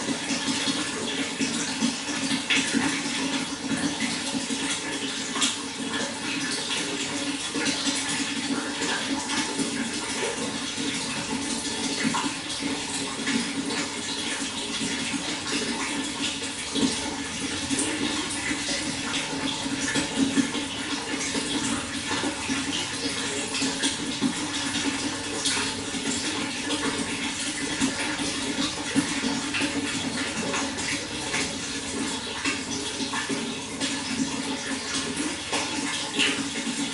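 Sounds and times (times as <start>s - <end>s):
running water splashing: 0.0s - 36.9s.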